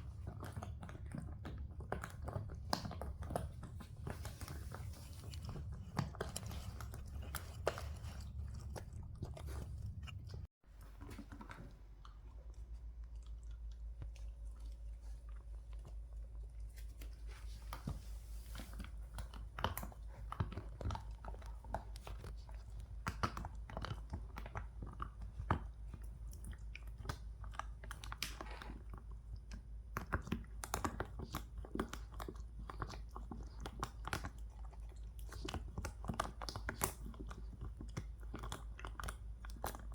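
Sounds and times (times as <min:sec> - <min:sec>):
dog crunching dry kibble: 0:00.0 - 0:39.9.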